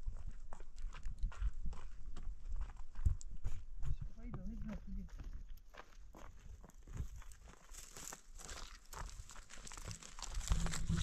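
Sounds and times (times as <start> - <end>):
footsteps crunching on stony ground: 0.0 - 11.0.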